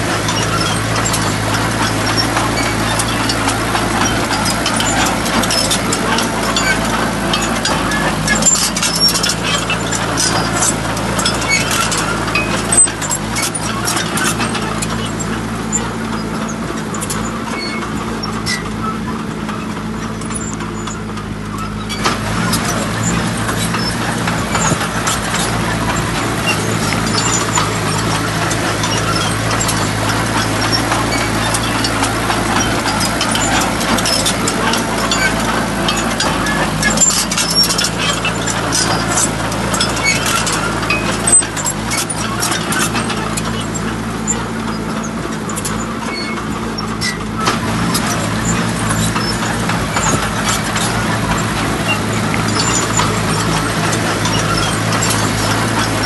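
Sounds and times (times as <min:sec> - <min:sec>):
rough loud noise: 0:00.0 - 0:56.0
truck engine running: 0:00.0 - 0:56.0.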